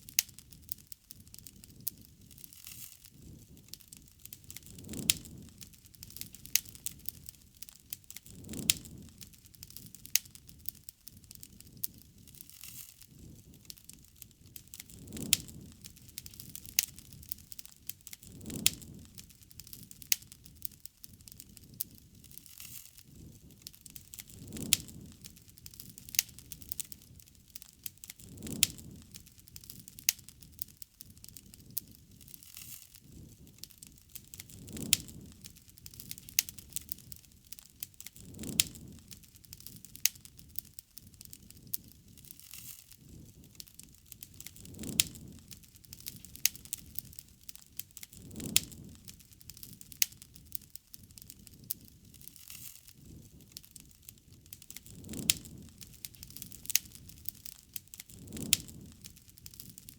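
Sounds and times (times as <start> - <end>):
fire popping and snapping: 0.0 - 59.9
wood bonfire crackling: 0.0 - 59.9.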